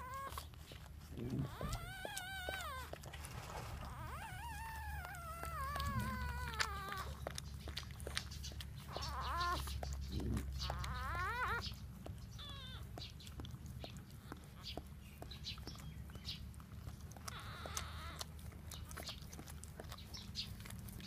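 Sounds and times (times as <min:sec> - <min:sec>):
newborn puppies crying: 0:00.0 - 0:21.0.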